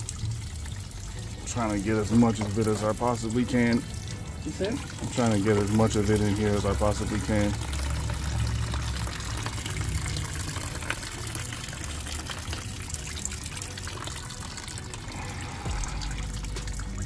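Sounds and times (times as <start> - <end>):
liquid trickling into container: 0.0 - 17.0.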